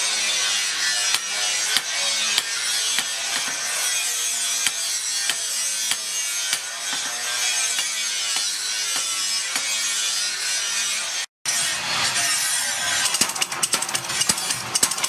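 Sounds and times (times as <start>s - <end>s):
hammer striking steel blade: 0.8s - 11.7s, 12.8s - 15.0s.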